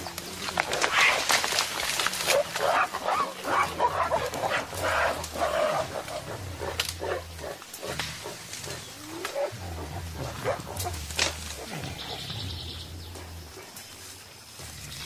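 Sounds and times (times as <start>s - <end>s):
gorillas making hoarse calls: 0.0s - 14.1s.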